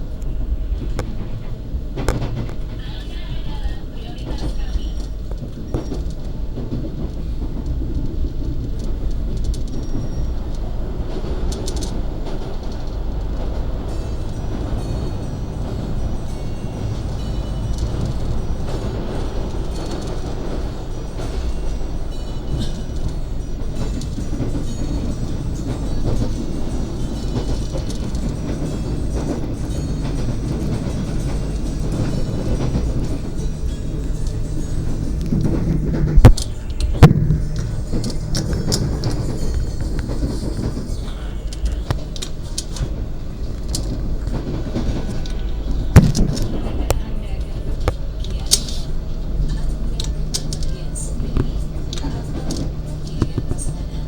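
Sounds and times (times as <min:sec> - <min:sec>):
train rumbling along track: 0:00.0 - 0:54.0
sharp rail clicks: 0:00.1 - 0:54.0.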